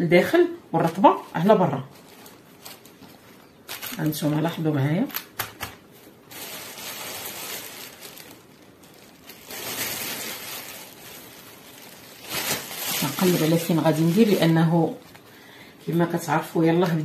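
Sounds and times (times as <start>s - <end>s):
pastry sheets crackling and rustling: 0.2s - 17.0s.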